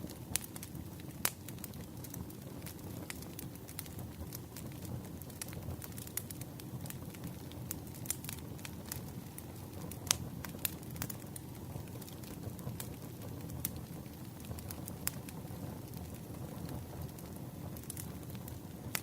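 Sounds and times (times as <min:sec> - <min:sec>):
burning wood crackling and popping: 0:00.0 - 0:19.0
flames rumbling: 0:00.0 - 0:19.0.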